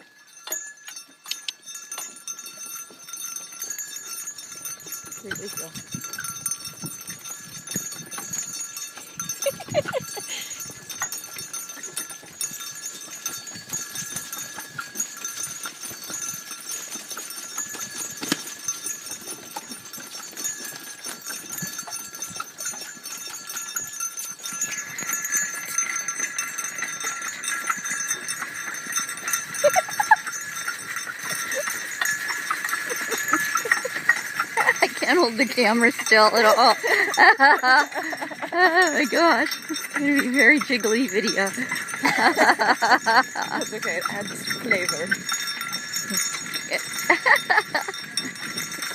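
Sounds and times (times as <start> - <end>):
harness bells ringing: 0.0 - 48.9
hooves clopping: 0.0 - 48.9.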